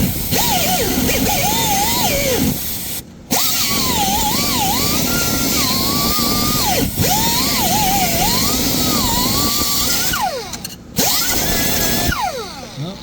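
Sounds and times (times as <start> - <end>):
cutoff tool whining through metal: 0.0 - 13.0.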